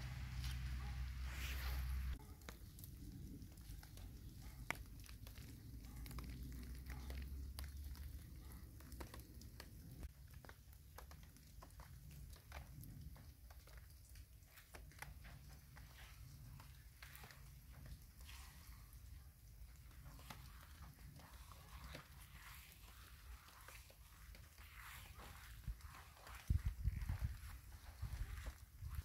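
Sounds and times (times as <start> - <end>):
raindrops pattering on leaves: 0.0 - 29.0.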